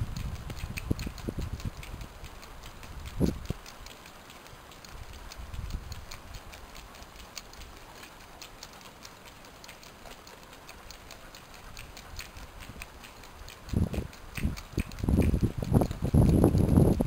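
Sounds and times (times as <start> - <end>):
dog toenails clicking on pavement: 0.0 - 17.0.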